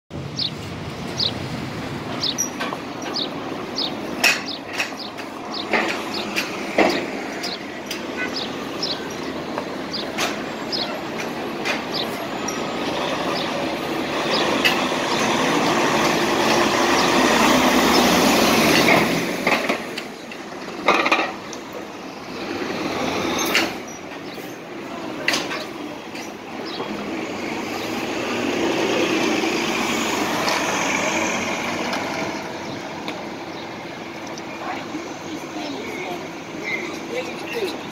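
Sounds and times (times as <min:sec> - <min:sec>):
buses passing: 0:00.1 - 0:37.9.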